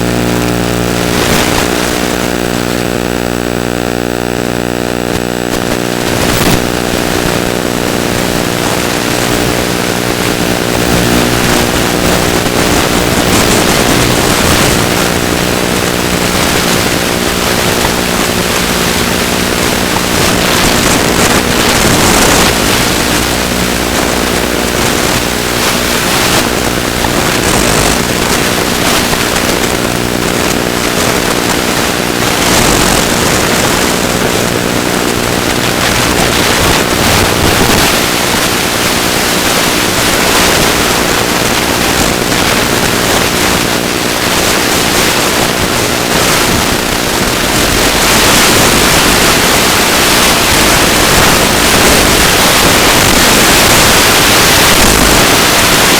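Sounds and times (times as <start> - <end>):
electric motor and propeller: 0.0 - 55.9
wind noise on microphone: 0.0 - 55.9.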